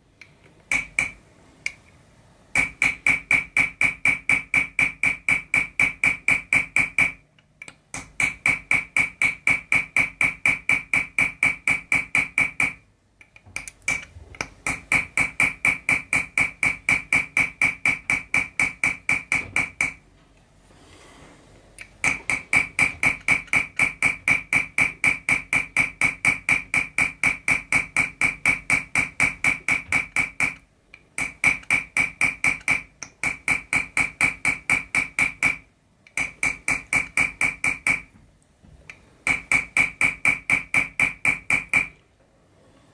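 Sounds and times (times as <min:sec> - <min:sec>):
hammer tapping metal tool: 0:00.2 - 0:01.9, 0:02.5 - 0:20.1, 0:21.8 - 0:38.2, 0:38.8 - 0:42.0.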